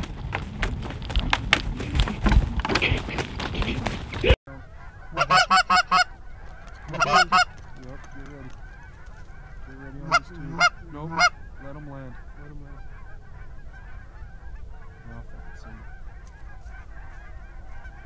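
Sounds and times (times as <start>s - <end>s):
geese honking: 0.0s - 18.0s
geese clucking softly: 1.7s - 18.0s.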